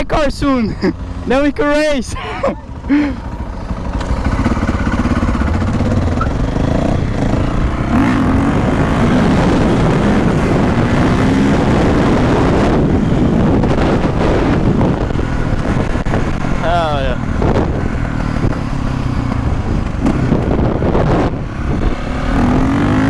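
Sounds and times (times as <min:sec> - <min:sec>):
dirt bike engine revving: 0:00.6 - 0:23.0
wind rushing over microphone: 0:04.1 - 0:23.0.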